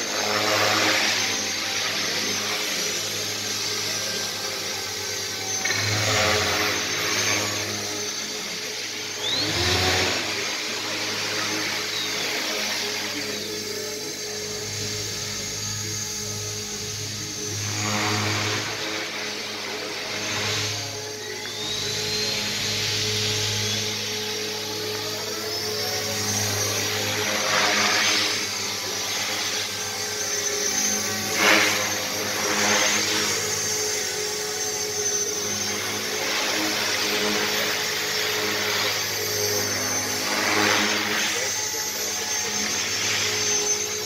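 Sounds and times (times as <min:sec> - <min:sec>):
model helicopter rotor whine: 0:00.0 - 0:44.0.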